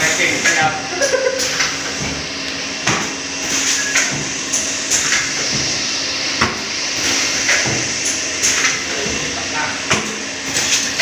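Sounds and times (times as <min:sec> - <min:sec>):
filling machine sharp clacks: 0:01.3 - 0:11.0.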